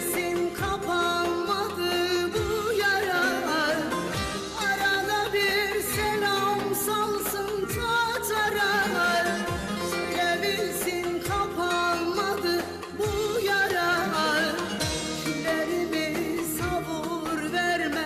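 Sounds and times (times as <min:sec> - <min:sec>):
ornamented folk melody: 0:00.0 - 0:18.0.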